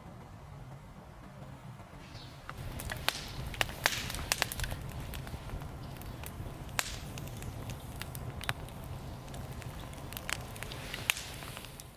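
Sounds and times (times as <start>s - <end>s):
wood fire crackling: 0.3s - 11.9s.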